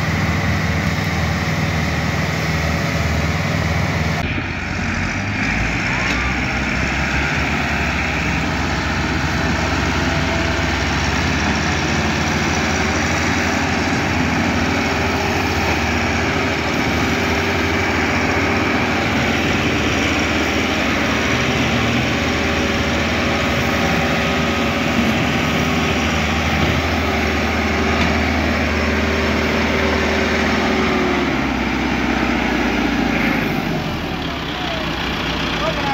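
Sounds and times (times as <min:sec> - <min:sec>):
tractor diesel engine under load: 0:00.0 - 0:35.9.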